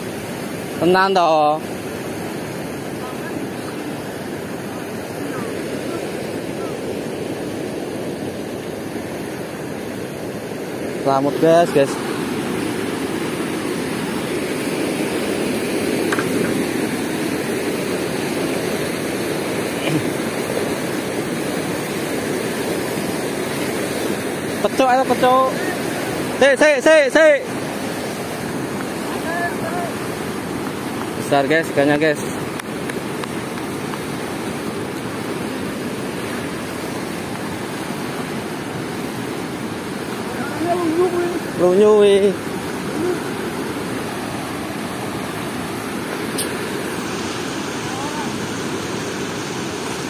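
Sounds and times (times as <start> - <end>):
water rushing through sluice gate: 0.0 - 50.0.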